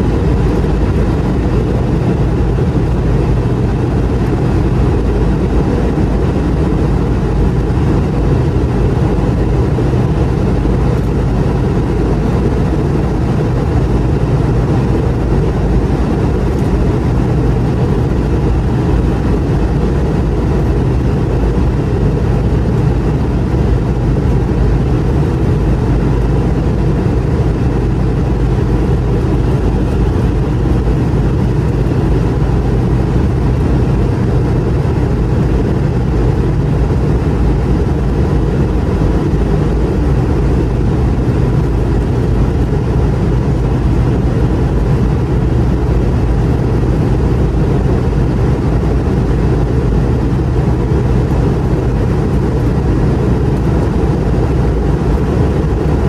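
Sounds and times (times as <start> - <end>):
jet engines humming: 0.0 - 56.0.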